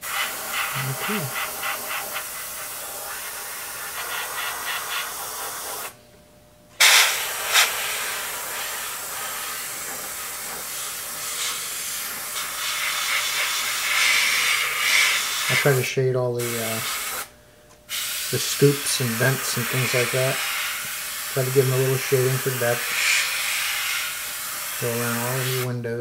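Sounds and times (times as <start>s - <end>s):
airbrush spraying hiss: 0.0s - 6.0s, 6.8s - 17.3s, 17.9s - 25.7s.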